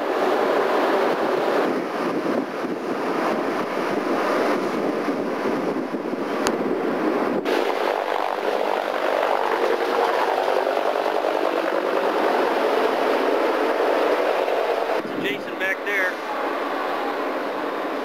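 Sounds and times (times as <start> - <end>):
ship machinery rushing: 0.0 - 18.0
wind on ship deck: 0.0 - 18.0.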